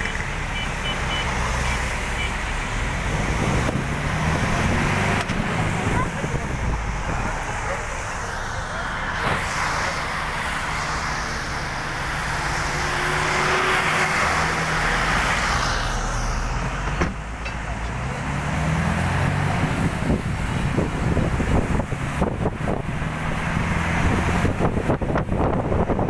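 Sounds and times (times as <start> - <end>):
engine drone: 0.0 - 26.0
road hiss: 0.0 - 26.0.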